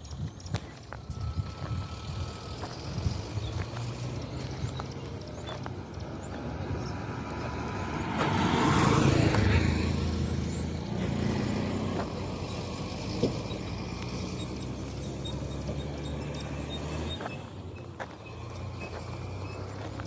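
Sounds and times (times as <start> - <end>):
low motor engine running: 0.0 - 20.0.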